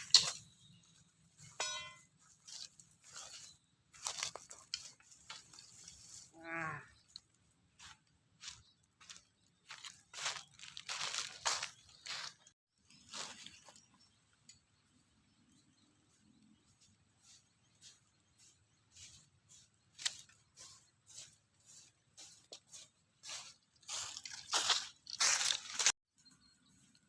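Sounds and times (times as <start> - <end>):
dry leaves and twigs crunching: 0.0 - 14.2, 16.2 - 26.0.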